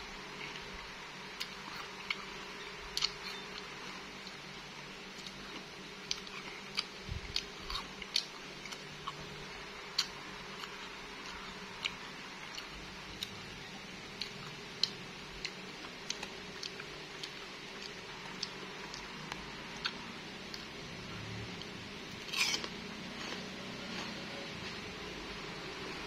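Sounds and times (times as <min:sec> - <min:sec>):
person chewing crunchy fruit: 0:00.1 - 0:26.0.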